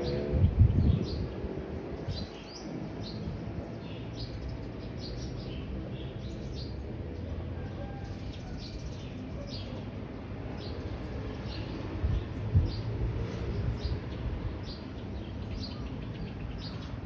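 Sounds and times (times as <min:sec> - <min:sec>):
birds chirping: 0:00.0 - 0:13.0, 0:13.6 - 0:17.0.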